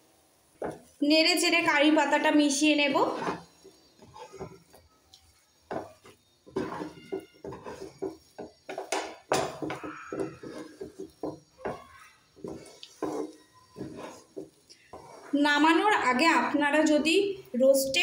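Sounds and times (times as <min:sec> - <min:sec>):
spatula scraping dough in a metal pan: 0:00.6 - 0:16.6.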